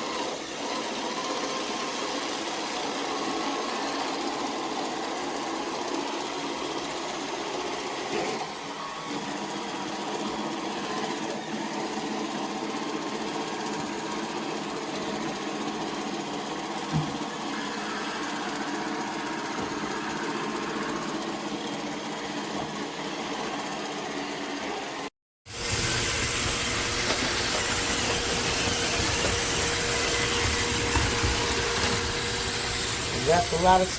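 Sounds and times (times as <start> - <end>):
robot vacuum motor whirring: 0.0 - 33.9.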